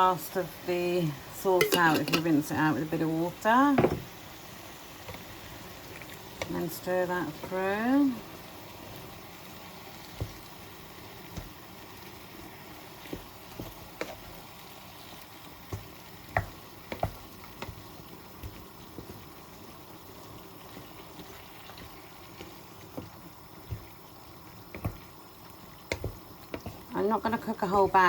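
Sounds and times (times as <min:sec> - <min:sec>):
sauce bubbling in a pan: 0:00.0 - 0:28.0.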